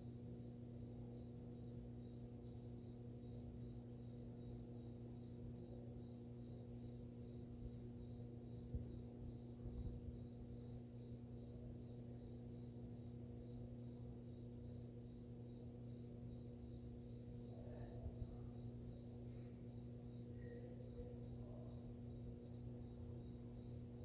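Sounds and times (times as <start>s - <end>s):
aquarium pump hum: 0.0s - 24.0s.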